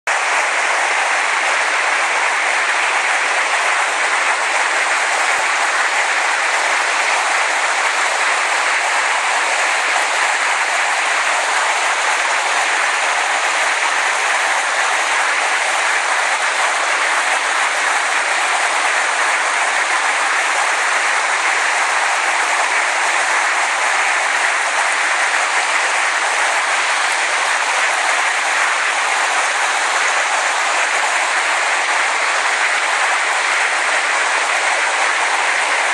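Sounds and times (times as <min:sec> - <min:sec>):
rushing flooded river: 0:00.1 - 0:35.9.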